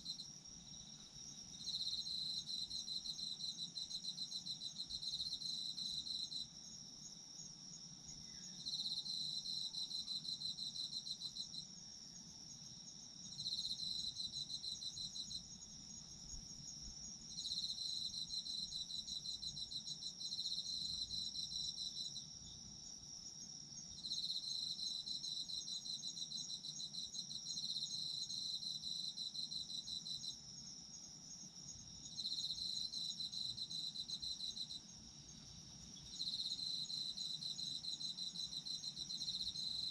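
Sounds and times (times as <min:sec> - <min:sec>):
insect high steady trill: 0:00.0 - 0:39.9.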